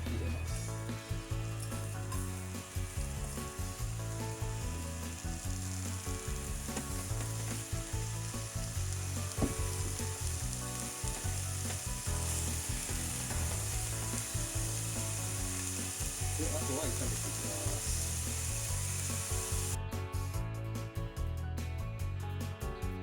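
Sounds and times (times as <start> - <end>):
vegetables sizzling in a frying pan: 0.0 - 19.8.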